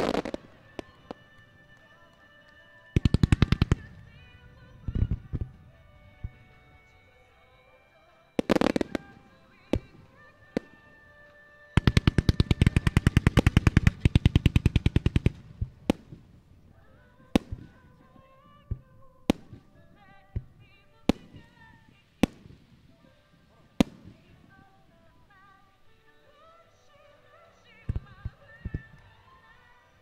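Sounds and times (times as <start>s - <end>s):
fireworks bangs: 0.0s - 25.7s, 27.7s - 29.2s
recorded show music: 0.0s - 30.0s.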